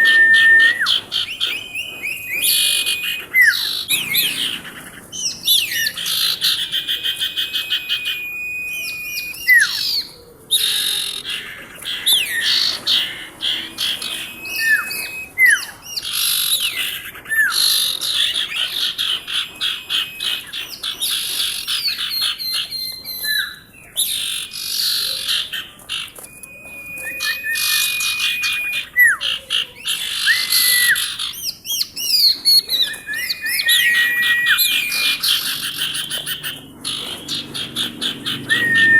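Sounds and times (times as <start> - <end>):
bird singing trills and whistles: 0.0 - 38.9.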